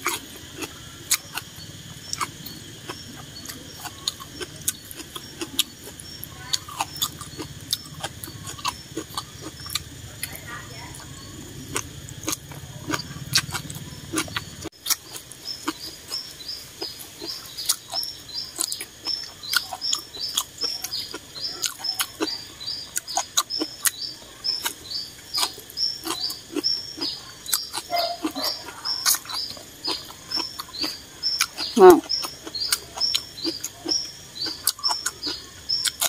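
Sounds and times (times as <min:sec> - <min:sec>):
small bird chirping: 0:00.0 - 0:36.0
wet chewing and slurping: 0:00.0 - 0:36.0.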